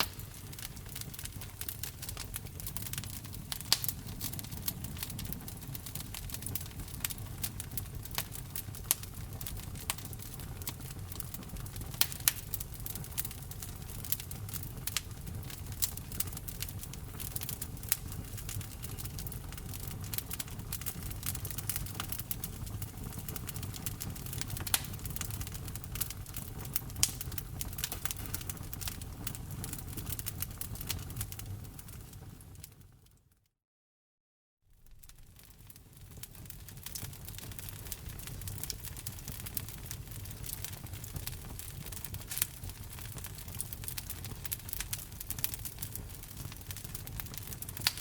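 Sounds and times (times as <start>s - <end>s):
wood fire crackling: 0.0s - 33.0s, 34.8s - 48.0s
wood popping in fire: 0.0s - 33.2s, 34.8s - 48.0s.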